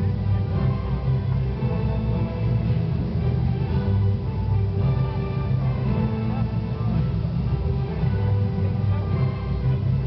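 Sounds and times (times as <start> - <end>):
music with sustained notes: 0.0 - 10.0.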